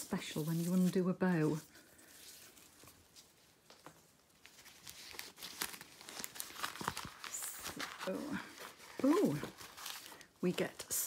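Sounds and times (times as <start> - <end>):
canvas rustling and crackling: 0.0 - 11.0.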